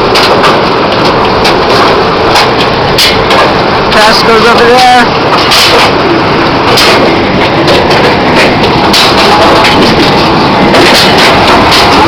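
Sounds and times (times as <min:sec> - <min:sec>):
conveyor belt machinery noise: 0:00.0 - 0:12.0.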